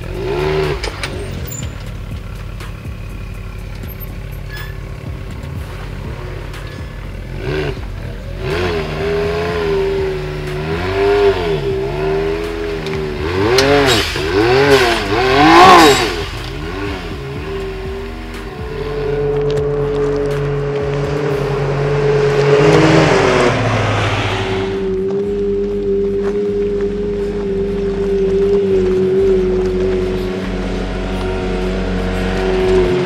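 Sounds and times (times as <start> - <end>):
engine revving: 0.0 - 33.0.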